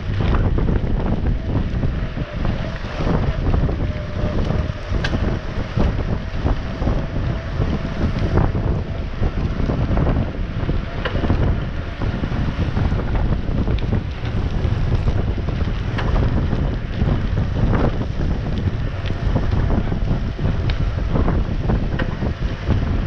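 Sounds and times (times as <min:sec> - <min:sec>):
bike clicks and rattles: 0:00.0 - 0:23.0
bike tyre rumble: 0:00.0 - 0:23.0
wind buffeting microphone: 0:00.0 - 0:23.0.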